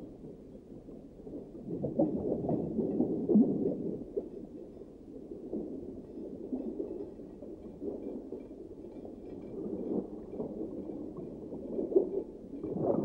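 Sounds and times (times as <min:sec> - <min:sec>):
muffled underwater rumbling: 0:00.0 - 0:13.0.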